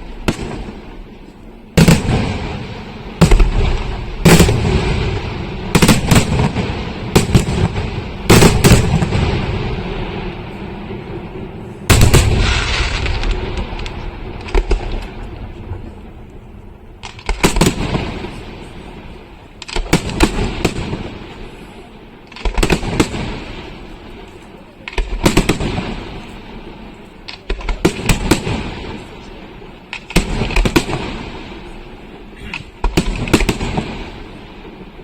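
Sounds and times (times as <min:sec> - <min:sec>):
fireworks exploding: 0:00.0 - 0:35.0.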